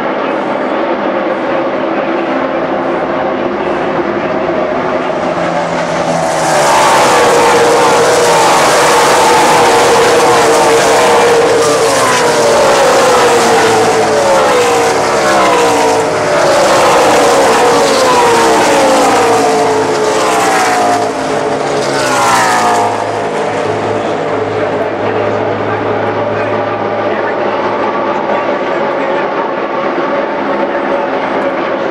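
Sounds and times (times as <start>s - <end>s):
race truck engines passing at full throttle: 0.0s - 31.9s.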